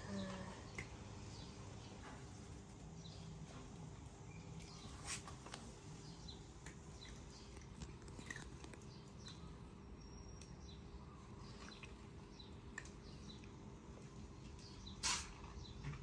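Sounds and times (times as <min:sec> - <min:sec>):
cat chewing dry kibble: 0:02.2 - 0:15.7.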